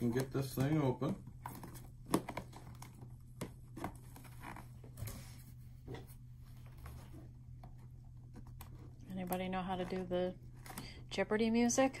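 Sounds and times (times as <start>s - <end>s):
cardboard box handling noises: 0.0s - 10.8s
steady low hum: 0.0s - 12.0s.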